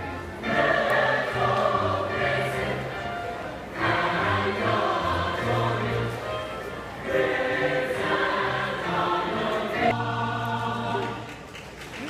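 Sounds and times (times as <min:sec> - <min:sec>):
choir singing held chords: 0:00.0 - 0:11.4.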